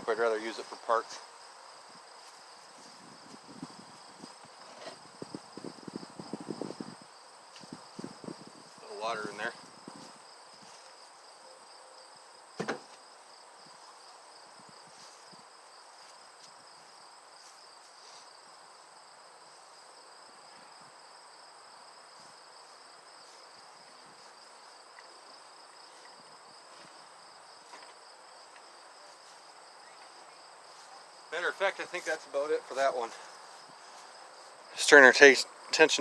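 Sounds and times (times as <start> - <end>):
crickets chirring: 0.0 - 36.0.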